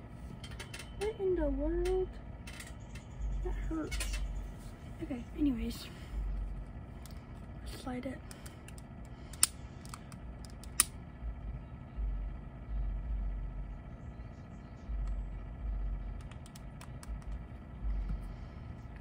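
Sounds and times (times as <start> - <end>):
low rumbling handling noise: 0.0 - 19.0.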